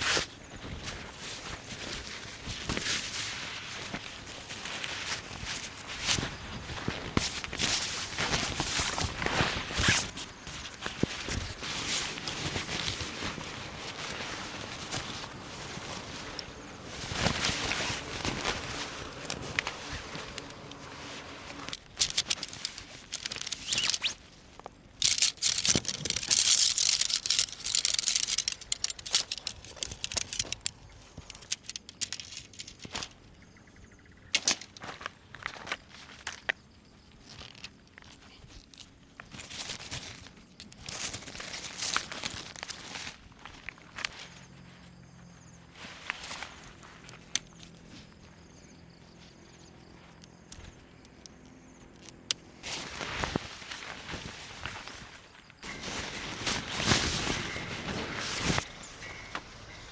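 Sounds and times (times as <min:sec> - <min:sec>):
rustling and crinkling of fabric: 0:00.0 - 0:33.8, 0:34.4 - 0:59.9
clicks and knocks of gear: 0:00.1 - 0:33.4, 0:34.3 - 0:36.6, 0:37.2 - 0:44.5, 0:45.8 - 0:59.9.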